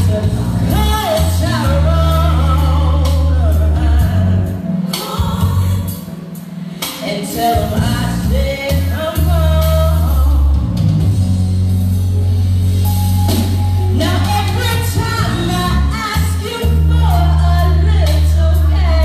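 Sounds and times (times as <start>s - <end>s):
woman singing into a microphone: 0.0s - 6.2s, 6.8s - 10.8s, 13.9s - 19.0s
backing music with heavy bass: 0.0s - 19.0s.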